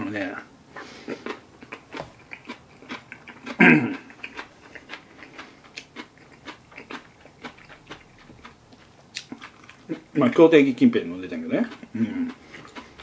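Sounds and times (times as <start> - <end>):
man chewing spaghetti: 0.7 - 10.3, 11.4 - 13.0.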